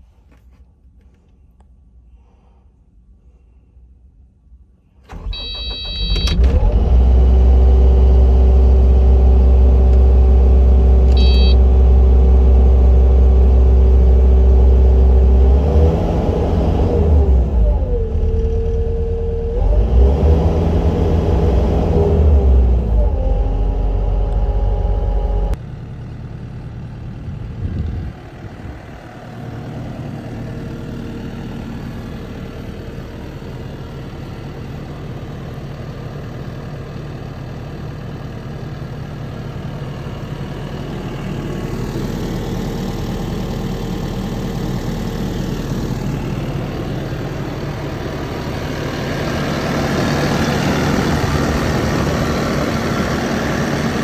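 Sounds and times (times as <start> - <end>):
diesel engine running: 5.1 - 54.0.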